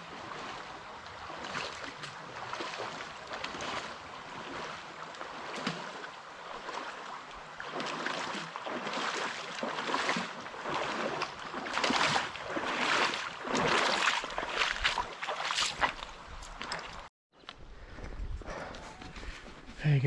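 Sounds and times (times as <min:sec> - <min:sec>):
water splashing and sloshing: 0:00.0 - 0:17.1.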